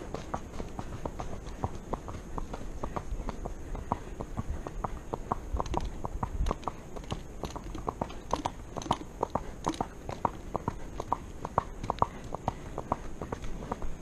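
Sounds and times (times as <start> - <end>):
horse hooves clip-clopping on asphalt: 0.0 - 14.0.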